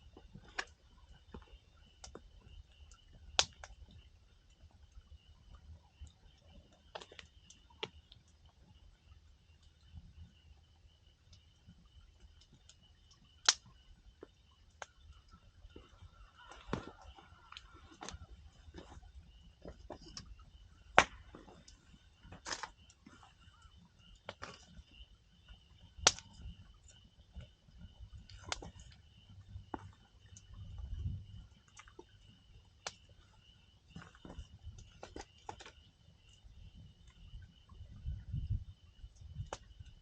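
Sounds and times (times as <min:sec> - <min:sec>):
campfire crackling and popping: 0:00.0 - 0:08.7, 0:11.2 - 0:33.2, 0:33.9 - 0:37.3, 0:39.2 - 0:40.0
insect trill: 0:00.0 - 0:40.0.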